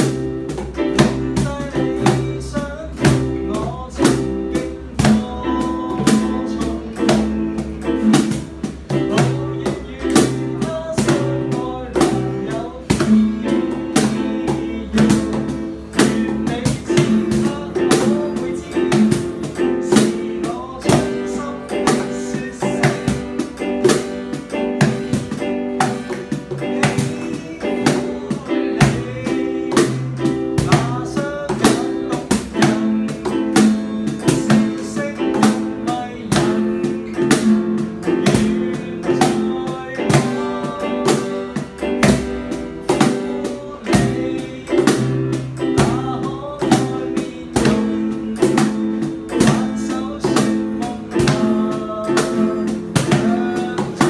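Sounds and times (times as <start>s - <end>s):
cajon hand drumming: 0.0s - 54.0s
strummed guitar chords: 0.0s - 54.0s.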